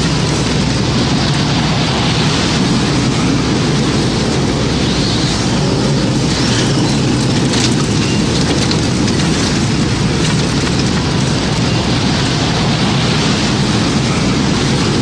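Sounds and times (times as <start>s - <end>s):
deep rumble of wind: 0.0s - 15.0s
heavy rain: 0.0s - 15.0s.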